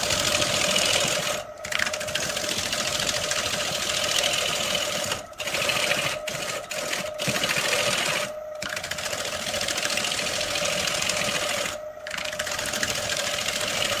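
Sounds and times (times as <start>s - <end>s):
woodturning lathe humming: 0.0s - 14.0s.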